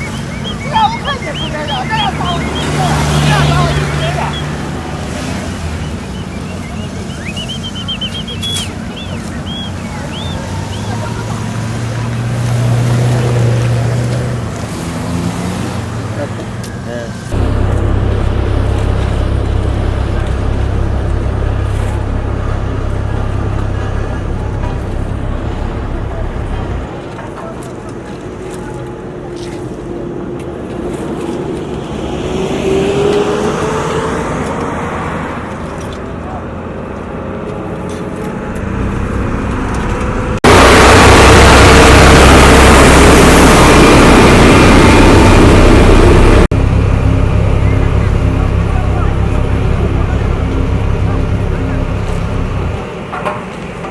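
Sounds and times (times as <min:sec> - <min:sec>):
heavy machine engine rumbling: 0:00.0 - 0:28.4, 0:34.2 - 0:53.9.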